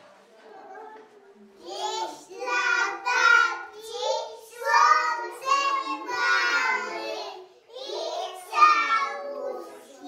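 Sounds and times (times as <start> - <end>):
children singing: 1.6 - 10.0.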